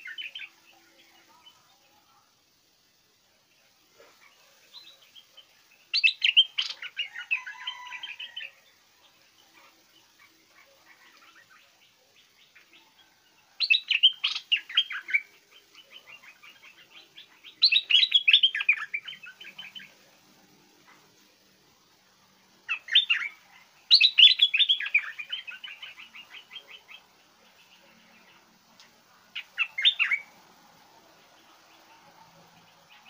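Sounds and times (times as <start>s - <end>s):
soft bird chatter: 0.0s - 33.0s.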